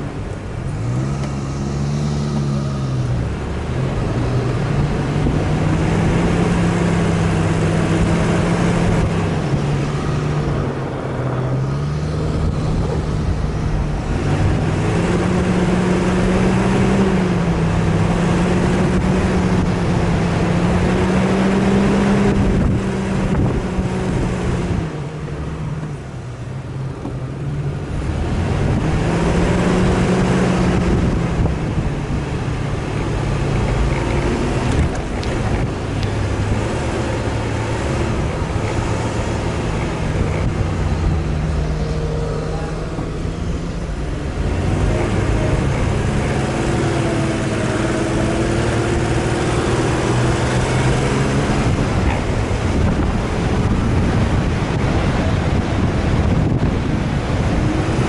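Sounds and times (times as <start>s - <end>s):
engine revving: 0.0s - 58.0s
steady rushing noise: 0.0s - 58.0s.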